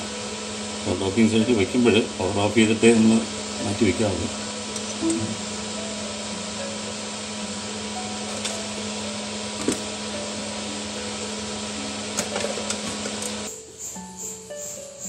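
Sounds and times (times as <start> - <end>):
mechanical hum and hiss: 0.0 - 15.0.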